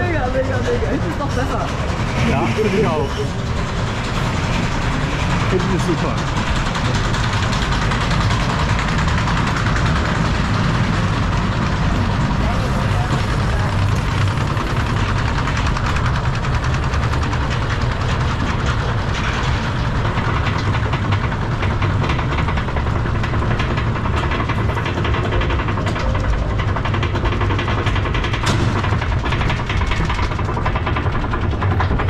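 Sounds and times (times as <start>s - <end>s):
rapid rattling and clatter: 0.0s - 32.0s
roller coaster wheels rumbling: 0.0s - 32.0s.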